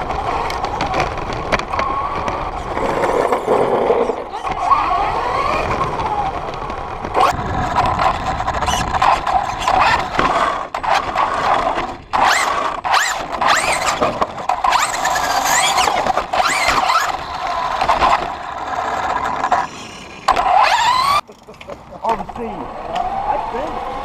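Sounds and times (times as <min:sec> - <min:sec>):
toy truck electric motor whining: 0:00.2 - 0:21.2.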